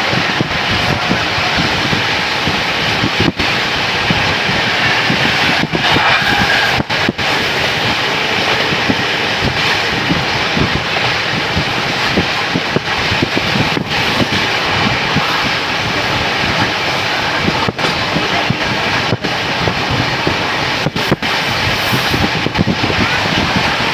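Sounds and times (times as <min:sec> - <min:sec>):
train running on rails: 0:00.0 - 0:23.9.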